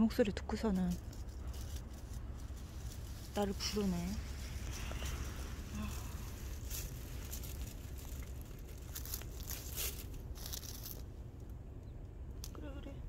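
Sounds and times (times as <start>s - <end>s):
steady low rumble: 0.0s - 13.0s
crinkling rustling: 0.6s - 11.6s.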